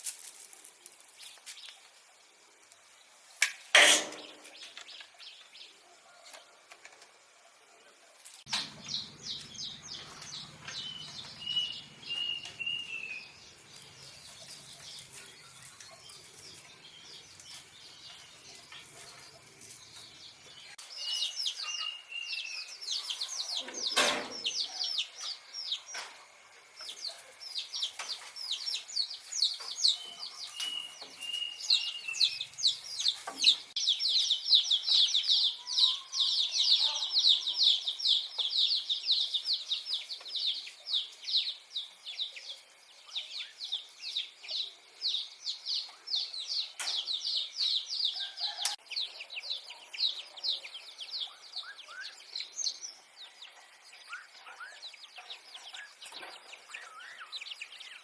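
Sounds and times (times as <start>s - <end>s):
birds chirping rapidly: 8.5s - 26.0s, 26.8s - 58.0s.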